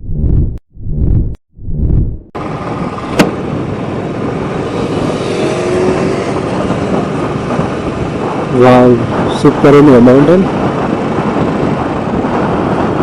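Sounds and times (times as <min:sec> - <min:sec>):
motorcycle engine and road noise: 0:02.4 - 0:13.0.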